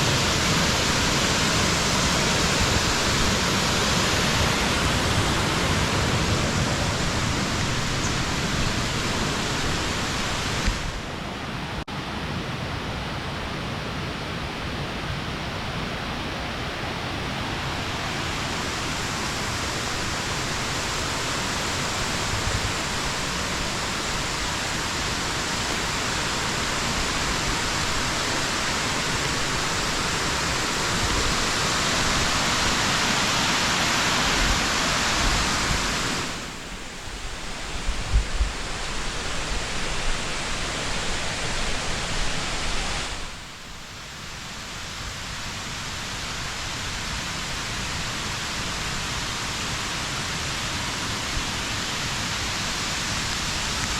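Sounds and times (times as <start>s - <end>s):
small waterfall rushing: 0.0s - 53.9s.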